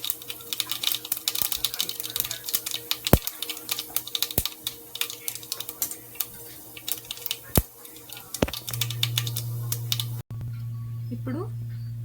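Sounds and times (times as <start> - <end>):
seeds crackling in hot oil: 0.0 - 10.2
steady low hum: 0.0 - 12.0.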